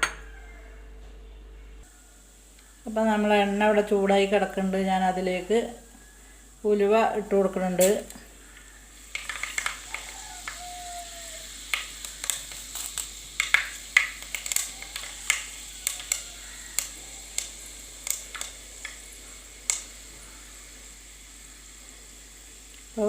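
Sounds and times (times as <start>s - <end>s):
seeds spluttering in hot oil: 2.2s - 23.0s.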